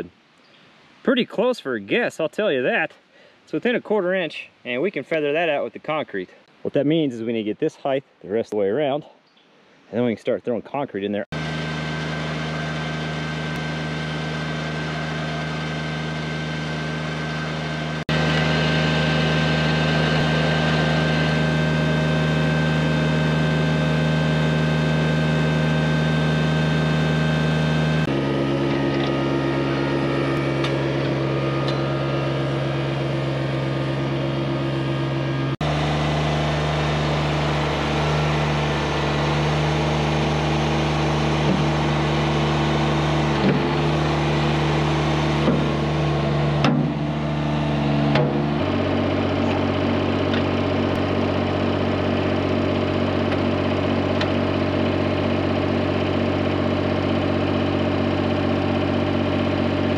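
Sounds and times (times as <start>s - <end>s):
tractor engine running: 11.3s - 59.9s.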